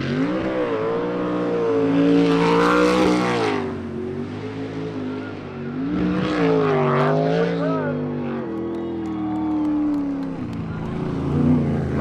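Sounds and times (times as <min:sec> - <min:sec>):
boat engine at high revs: 0:00.0 - 0:12.0.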